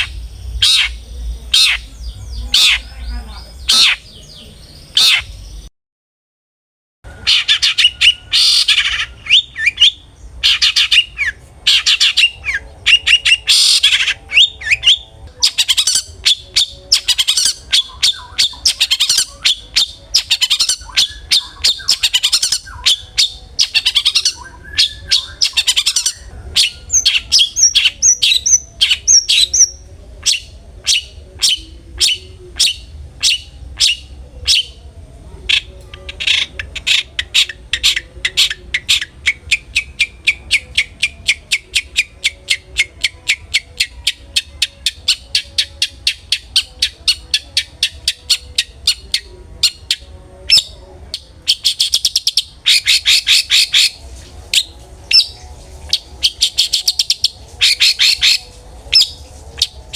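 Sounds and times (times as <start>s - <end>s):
shrike singing: 0.0s - 5.7s, 7.1s - 59.9s.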